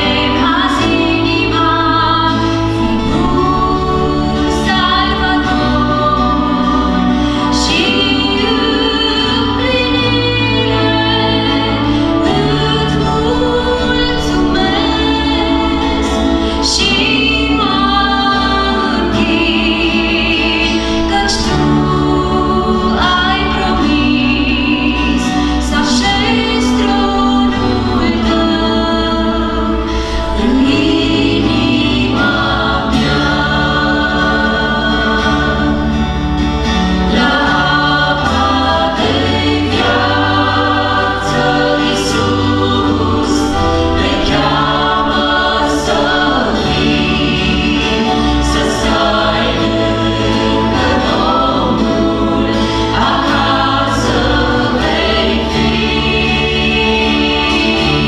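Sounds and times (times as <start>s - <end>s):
acoustic guitar: 0.0s - 58.0s
electric bass guitar: 0.0s - 58.0s
group singing gospel song: 0.0s - 58.0s.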